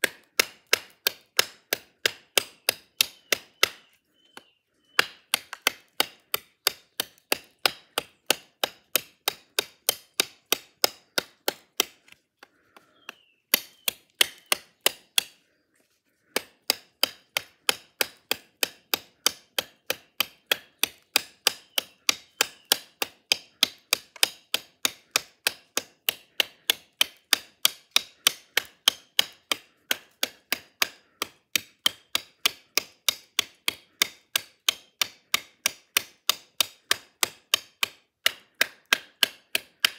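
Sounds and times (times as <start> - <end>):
blade chopping into wood: 0.0 - 3.9, 4.9 - 12.2, 12.8 - 15.4, 16.3 - 39.9.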